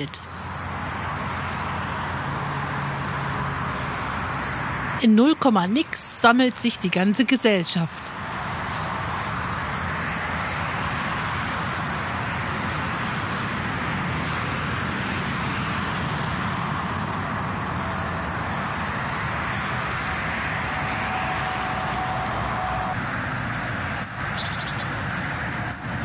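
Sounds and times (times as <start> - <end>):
distant motorway traffic: 0.0 - 26.0.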